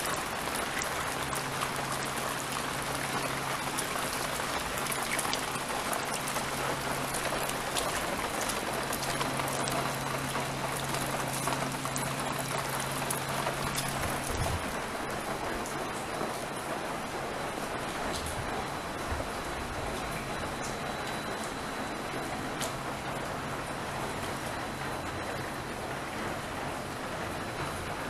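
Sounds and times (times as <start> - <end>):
rain hissing and pattering: 0.0 - 28.0.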